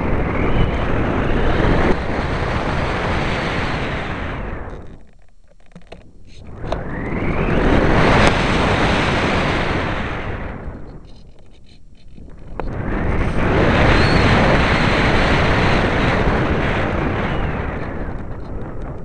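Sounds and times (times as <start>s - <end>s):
wind buffeting microphone: 0.0s - 5.2s, 5.8s - 19.0s.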